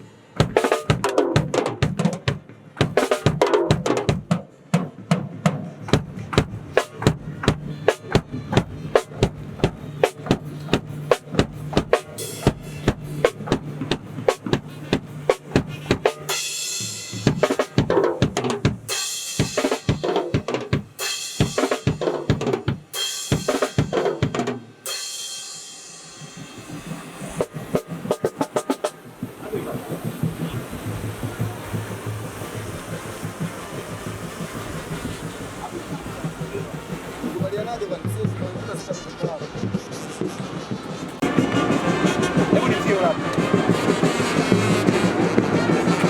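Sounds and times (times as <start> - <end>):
drum kit playing: 0.0 - 46.0.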